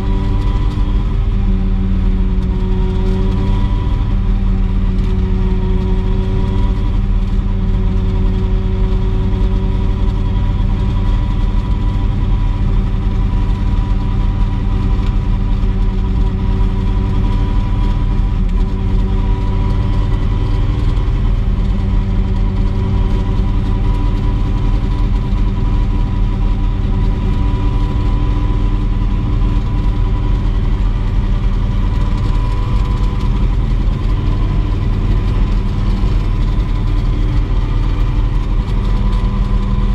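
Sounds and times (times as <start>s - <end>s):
helicopter turbine engine droning: 0.0s - 39.9s.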